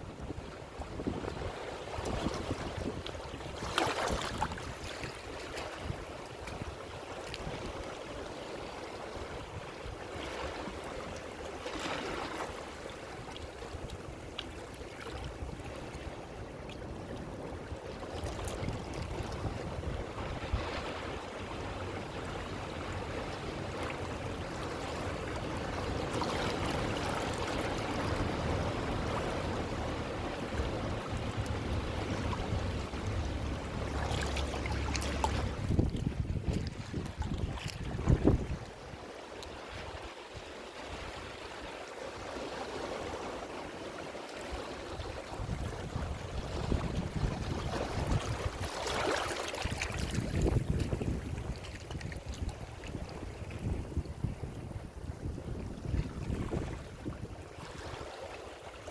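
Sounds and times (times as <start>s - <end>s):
ocean waves washing in: 0.0s - 58.9s.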